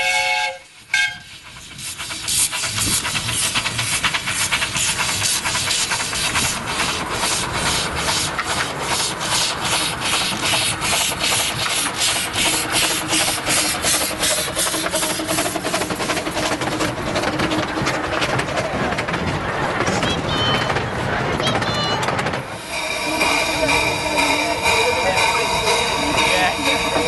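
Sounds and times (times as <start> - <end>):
steam locomotive chuffing: 0.0 - 27.0.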